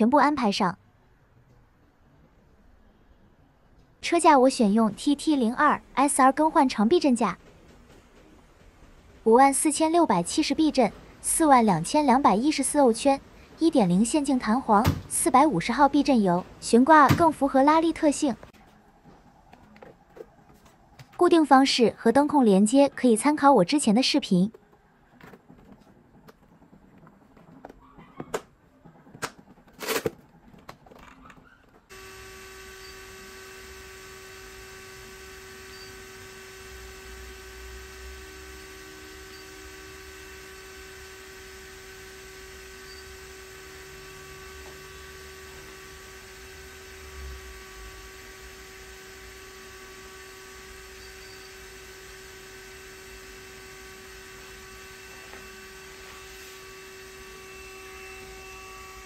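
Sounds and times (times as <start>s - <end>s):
electrical hum with whining tones: 2.5s - 59.0s.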